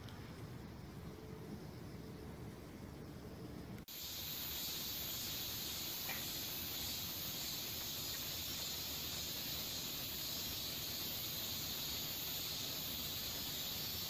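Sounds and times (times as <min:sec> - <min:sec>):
insect chorus chirring: 0:00.0 - 0:14.0.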